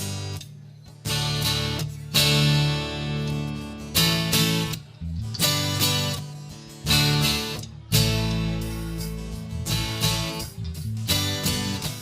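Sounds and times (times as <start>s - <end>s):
bass guitar notes: 0.0s - 12.0s
strummed guitar chords: 0.0s - 12.0s.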